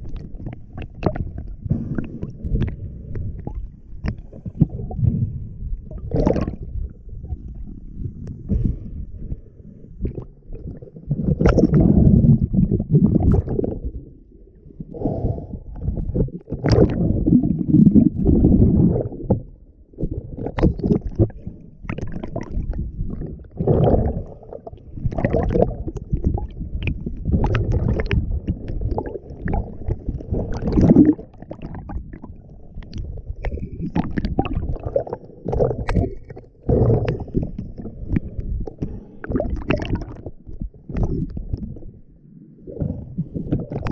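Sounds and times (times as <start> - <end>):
underwater rumbling and sloshing: 0.0 - 43.9.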